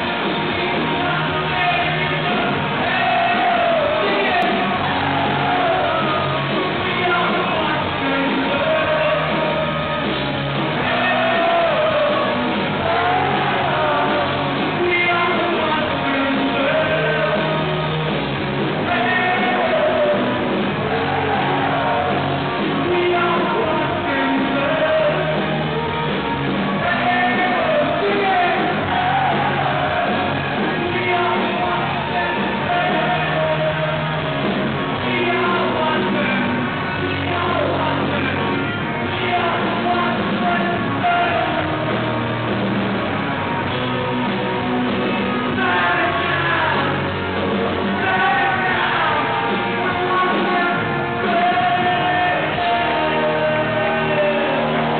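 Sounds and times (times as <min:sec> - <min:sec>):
man singing hard: 0:00.0 - 0:18.0, 0:18.8 - 0:25.8, 0:26.7 - 0:42.5, 0:45.4 - 0:47.2, 0:47.8 - 0:54.9
live rock band: 0:00.0 - 0:54.9.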